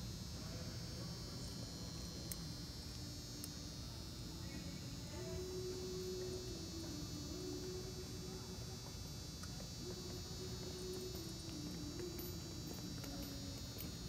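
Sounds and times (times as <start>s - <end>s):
faint hum with high buzz: 0.0s - 14.0s.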